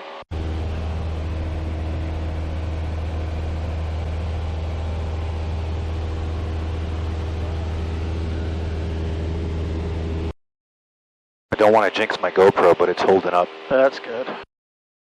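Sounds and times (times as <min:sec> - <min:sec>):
airplane engine and propeller droning: 0:00.0 - 0:10.3, 0:11.5 - 0:14.5.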